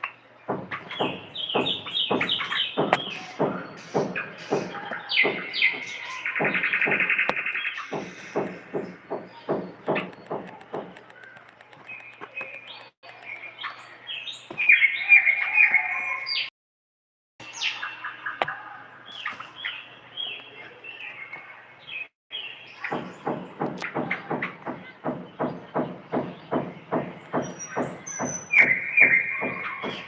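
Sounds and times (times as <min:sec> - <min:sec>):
bulbul singing: 0:00.0 - 0:16.5, 0:17.4 - 0:30.0.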